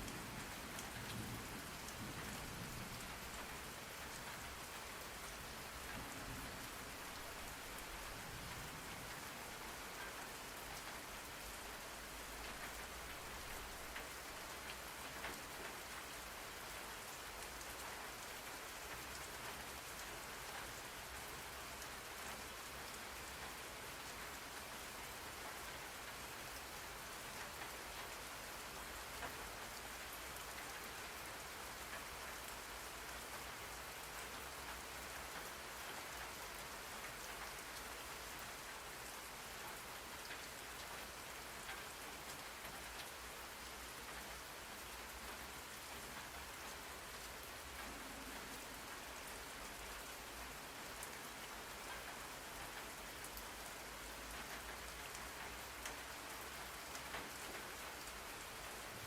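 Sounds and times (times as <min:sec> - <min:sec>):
raindrop patter: 0:00.0 - 0:24.6, 0:34.0 - 0:59.0
steady rain hiss: 0:00.0 - 0:59.0.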